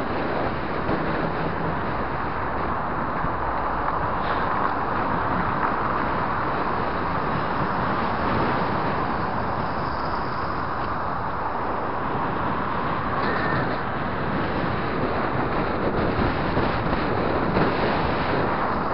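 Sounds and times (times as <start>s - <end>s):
road and traffic noise: 0.0s - 18.9s
wind on microphone: 0.0s - 18.9s.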